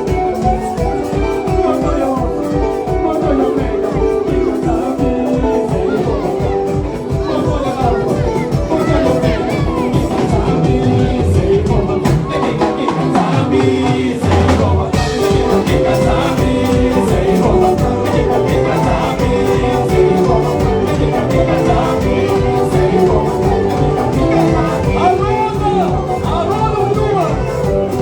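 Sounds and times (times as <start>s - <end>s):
live band playing dance music: 0.0s - 28.0s
person singing: 0.0s - 28.0s.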